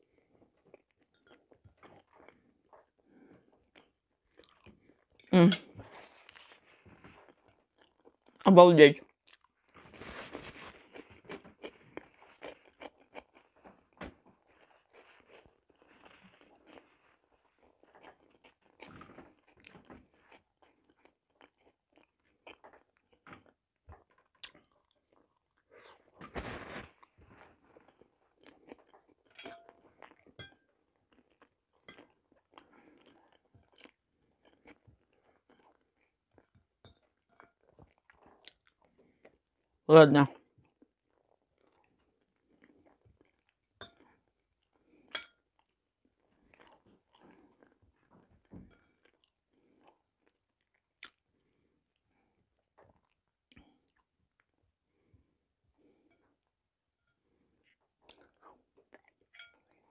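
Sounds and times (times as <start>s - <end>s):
person chewing: 0.2s - 8.4s, 9.1s - 39.7s, 40.3s - 52.0s, 52.6s - 54.6s, 57.5s - 59.9s.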